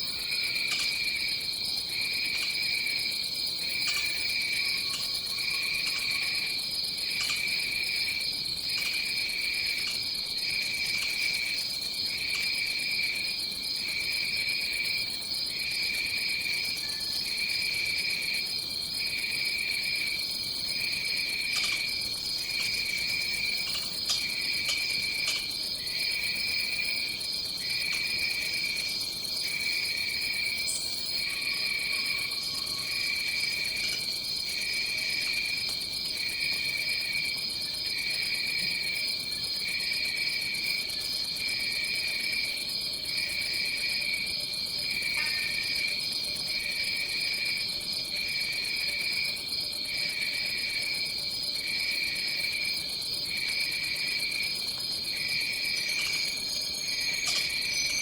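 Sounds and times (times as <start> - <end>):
lower insect trill: 0.0 - 58.0.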